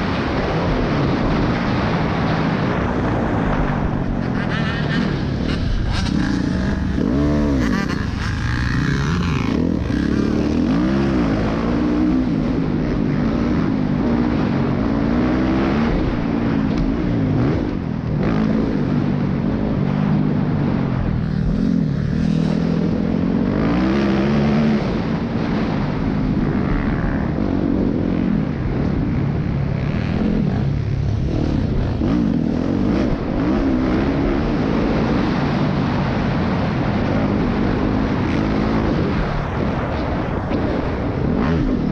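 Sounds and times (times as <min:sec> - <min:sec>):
motorcycle engine running: 0:00.0 - 0:41.9
wind noise: 0:00.0 - 0:41.9.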